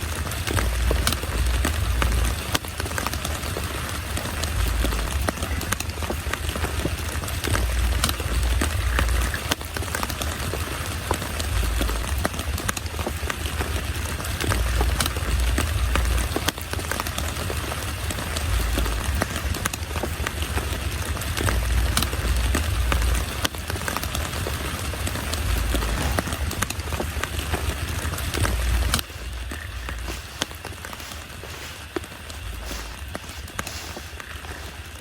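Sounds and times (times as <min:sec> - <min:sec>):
low rumble: 0:00.0 - 0:03.2, 0:03.8 - 0:09.5, 0:11.4 - 0:16.5, 0:17.6 - 0:23.4, 0:24.2 - 0:34.8
heavy rain falling: 0:00.0 - 0:35.0.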